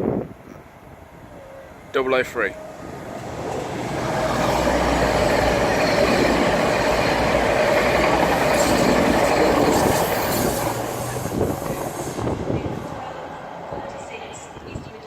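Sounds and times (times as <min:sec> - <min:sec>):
diesel train engines: 0:00.0 - 0:15.0
train wheels on rails: 0:02.2 - 0:15.0.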